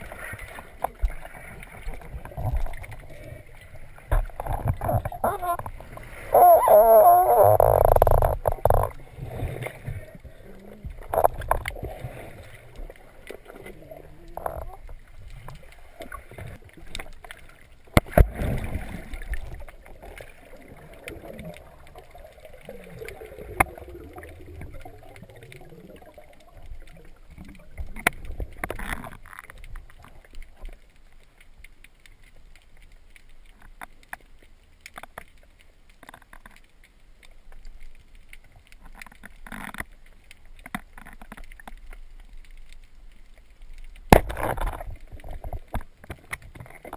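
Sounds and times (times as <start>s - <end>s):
underwater gurgling and sloshing: 0.0s - 46.9s.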